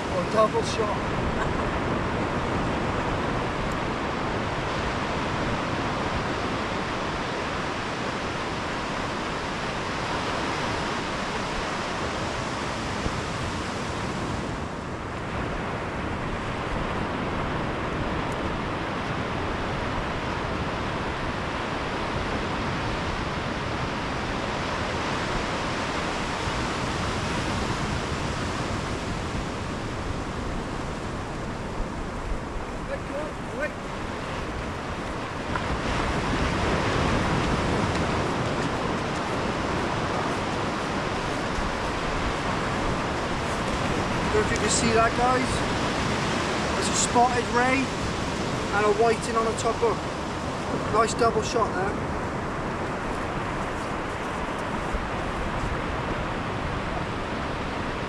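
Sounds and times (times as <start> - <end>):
surf breaking on sandy beach: 0.0 - 58.0
wind: 0.0 - 58.0.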